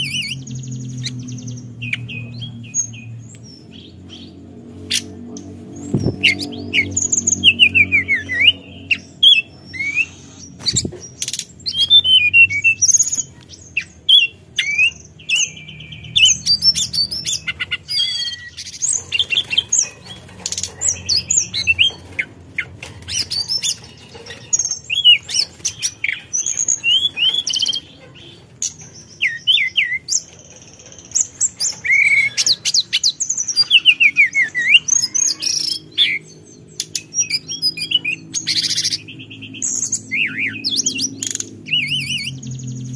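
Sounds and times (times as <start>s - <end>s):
bird singing whistles and trills: 5.8s - 22.0s, 23.1s - 28.0s, 28.6s - 42.9s.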